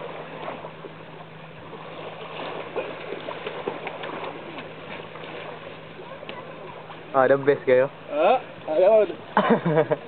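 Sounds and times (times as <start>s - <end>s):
small water splashes: 0.0s - 9.4s
gentle surf on sandy beach: 0.0s - 10.0s
steady low hum: 0.0s - 10.0s.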